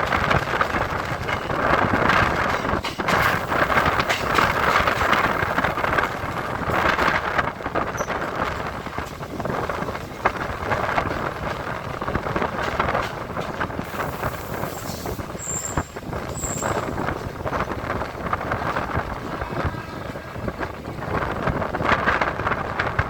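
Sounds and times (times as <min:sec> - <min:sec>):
rushing wind: 0:00.0 - 0:23.0
train wheels clattering on rails: 0:00.0 - 0:23.0.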